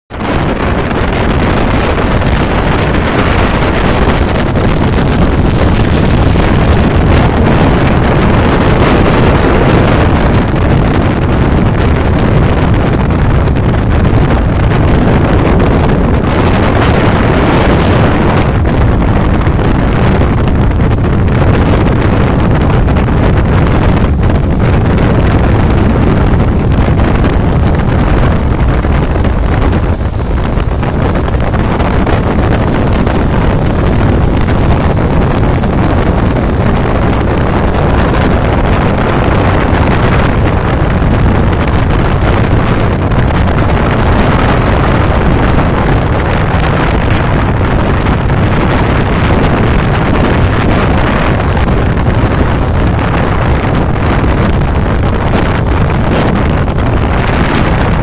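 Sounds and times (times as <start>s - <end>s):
wind buffeting microphone: 0.1s - 58.0s
motorcycle engine: 0.5s - 48.2s.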